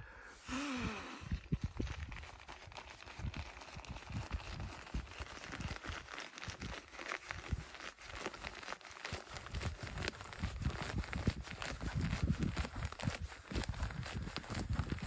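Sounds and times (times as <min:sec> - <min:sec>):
fabric rustling and crinkling: 0:01.4 - 0:15.0.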